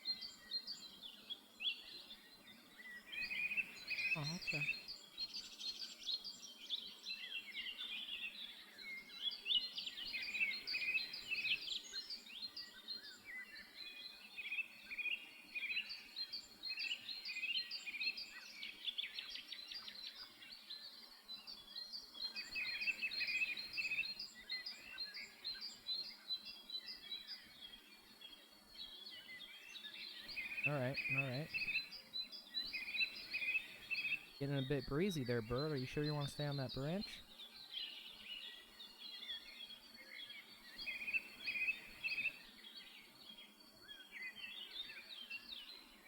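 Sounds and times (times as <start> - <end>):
songbird chirping: 0.0 - 46.0.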